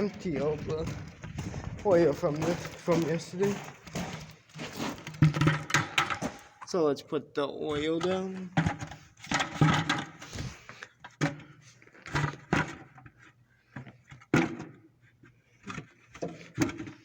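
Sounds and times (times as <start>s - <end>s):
objects knocking and clunking: 0.0s - 6.7s, 7.6s - 17.0s.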